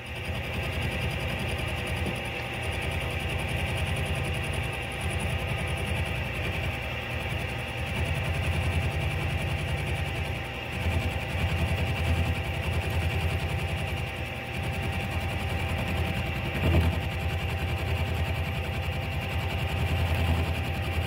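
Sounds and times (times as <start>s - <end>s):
motor hum: 0.0s - 21.0s
milling machine cutting metal: 0.1s - 21.0s.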